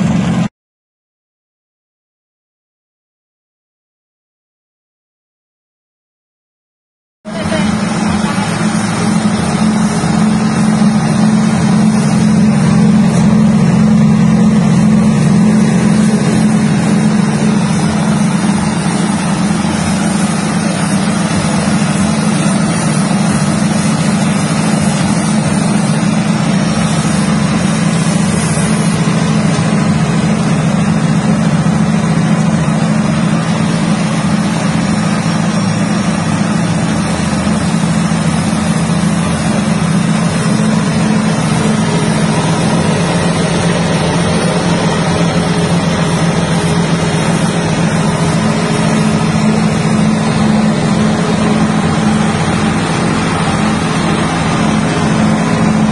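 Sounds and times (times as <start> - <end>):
peanut shelling machine motor drone: 7.3 - 55.9.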